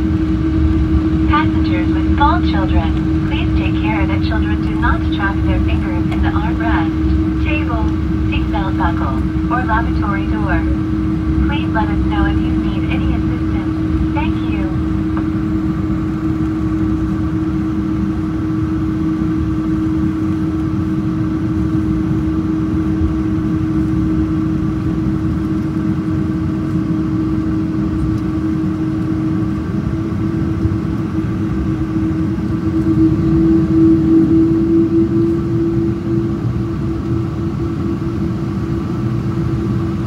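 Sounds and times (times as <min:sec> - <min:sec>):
jet engines rumbling in cabin: 0:00.0 - 0:40.0.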